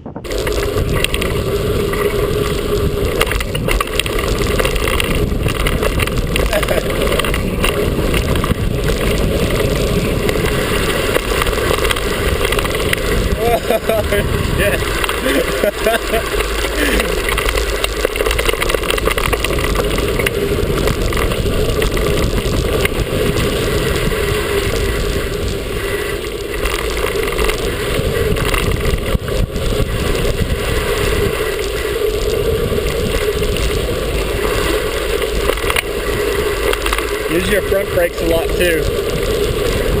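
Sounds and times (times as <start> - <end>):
bike rattling and knocking: 0.0 - 40.0
wind rumble on microphone: 0.0 - 40.0
tyres crunching over gravel: 0.2 - 40.0.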